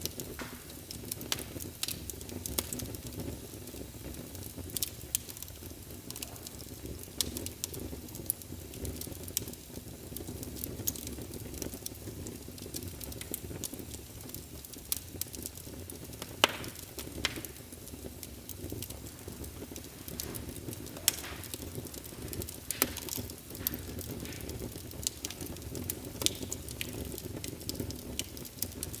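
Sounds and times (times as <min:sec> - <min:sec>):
fire popping and snapping: 0:00.0 - 0:29.0
low rumble of flames: 0:00.0 - 0:29.0.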